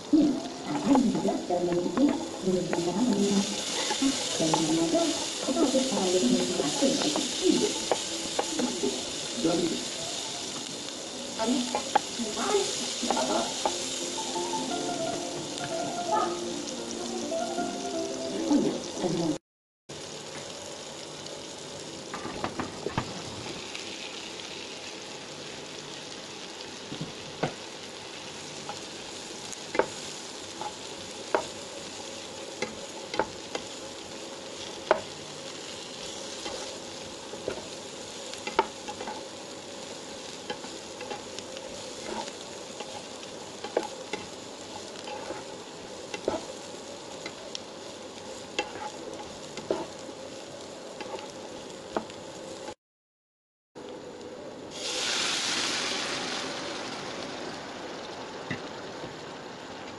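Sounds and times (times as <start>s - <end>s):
food sizzling in oil: 0.0s - 52.8s, 53.8s - 59.9s.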